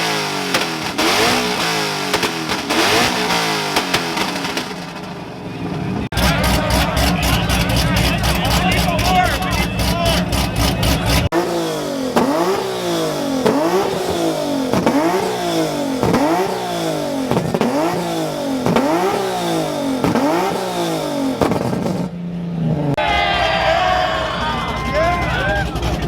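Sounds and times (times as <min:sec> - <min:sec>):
car engine idling: 0:00.0 - 0:26.0
car engine revving: 0:00.0 - 0:26.0.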